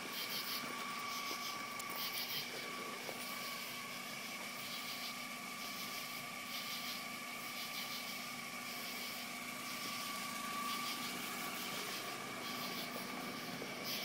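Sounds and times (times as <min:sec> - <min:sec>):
car engine idling: 0:00.0 - 0:14.0
high whine: 0:00.0 - 0:14.0.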